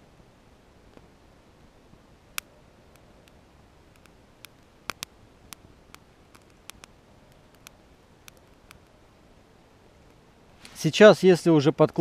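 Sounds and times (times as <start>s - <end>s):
faint fire hiss: 0.0s - 12.0s
kindling fire crackling: 0.3s - 11.2s.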